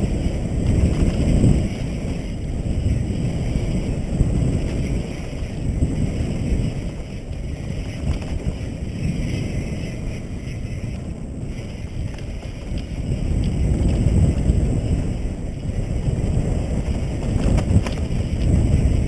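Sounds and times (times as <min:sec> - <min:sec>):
bike tyres on dirt: 0:00.0 - 0:19.0
wind rushing on microphone: 0:00.0 - 0:19.0.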